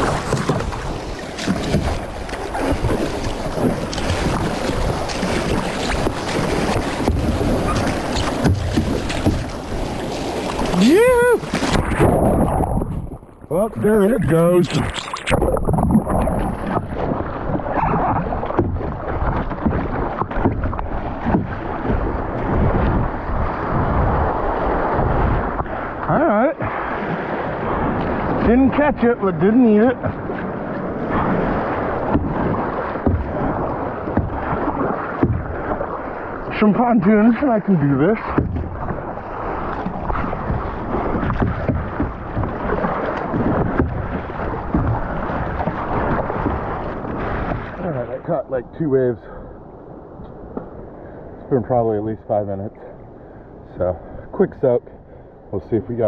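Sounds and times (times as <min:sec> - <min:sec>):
water slapping against a hull: 0:00.0 - 0:51.7
surf washing around a kayak: 0:00.0 - 0:56.0
wind buffeting the microphone: 0:00.0 - 0:56.0.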